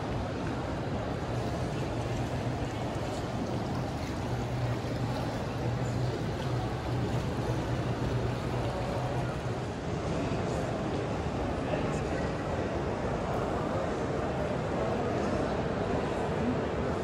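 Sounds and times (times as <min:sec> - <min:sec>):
indoor mall background din: 0:00.0 - 0:17.0.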